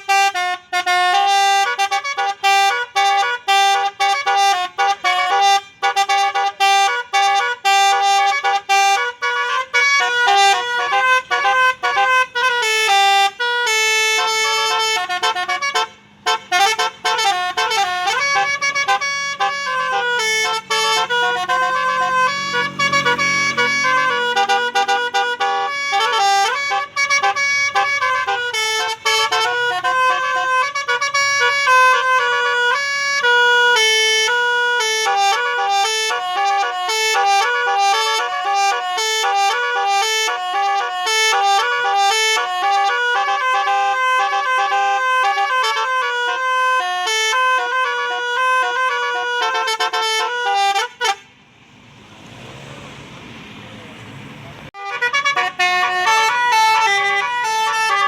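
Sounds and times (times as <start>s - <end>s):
tuned bus horns playing a tune: 0.0s - 51.4s, 54.7s - 58.0s.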